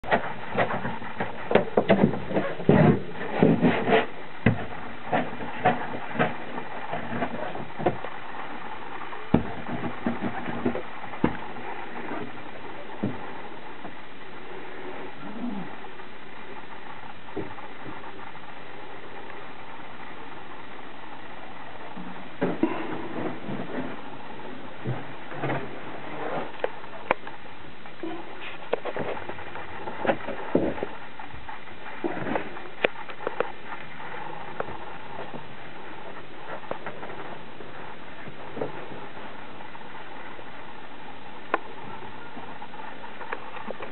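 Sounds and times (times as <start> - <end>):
knocks and rustling of movement: 0.0 - 43.9
steady hiss: 0.2 - 43.9.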